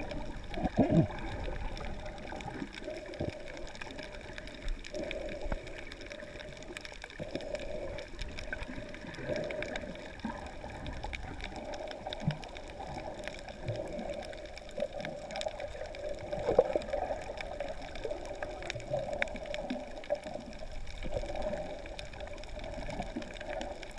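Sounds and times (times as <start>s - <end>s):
underwater sloshing and gurgling: 0.0s - 23.9s.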